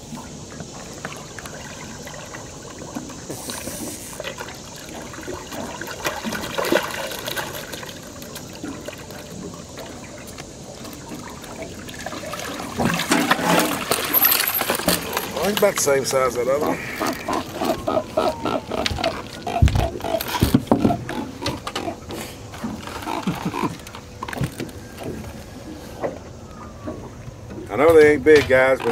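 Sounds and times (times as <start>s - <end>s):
fish splashing and thrashing: 0.0s - 28.9s
water dribbling: 0.0s - 28.9s.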